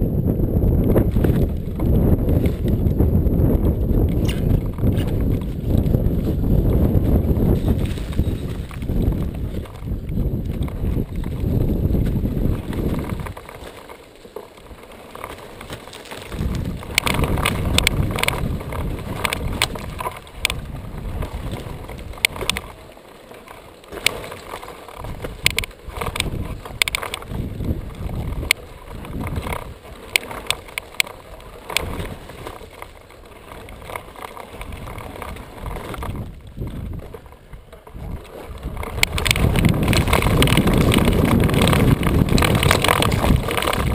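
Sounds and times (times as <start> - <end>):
wind buffeting microphone: 0.0 - 13.8, 14.6 - 22.9, 23.9 - 43.9
dirt and rock crunching: 0.0 - 43.9.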